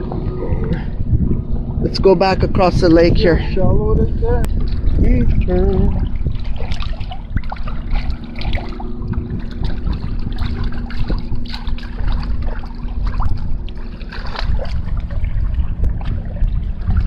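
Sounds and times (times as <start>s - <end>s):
water splashing against hull: 0.0s - 17.0s
wind rumble on microphone: 0.0s - 17.0s.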